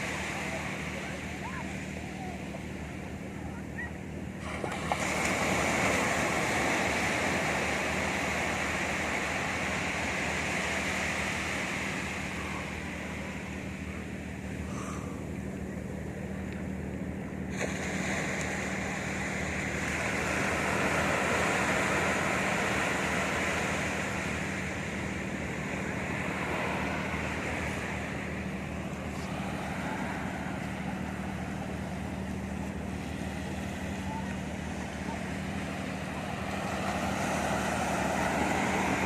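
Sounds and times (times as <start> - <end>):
sea surf washing onto beach: 0.0 - 3.4, 4.3 - 15.5, 17.4 - 39.0
steady low hum: 0.0 - 39.0.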